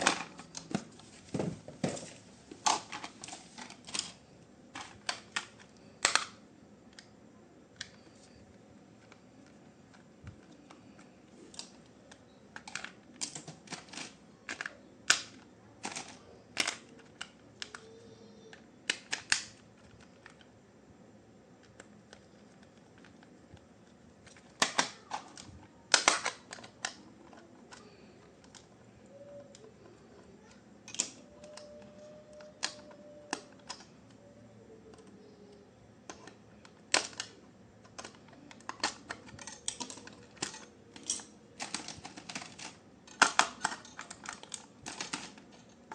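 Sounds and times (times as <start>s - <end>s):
plastic parts clicking and tapping: 0.0s - 7.1s, 7.8s - 20.5s, 21.6s - 45.9s.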